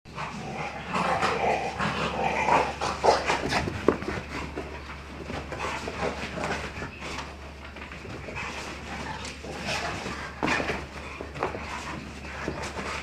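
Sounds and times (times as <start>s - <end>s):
dogs playing: 0.1s - 13.0s.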